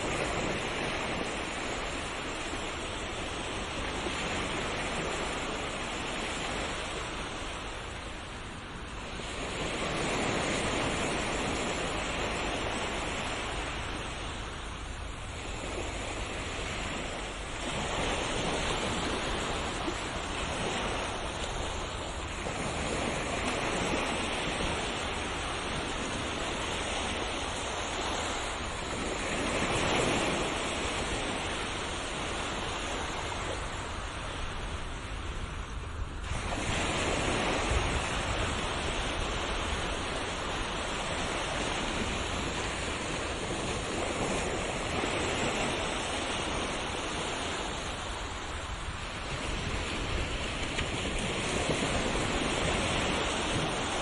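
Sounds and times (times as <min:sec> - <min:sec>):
ocean waves on shore: 0:00.0 - 0:54.0.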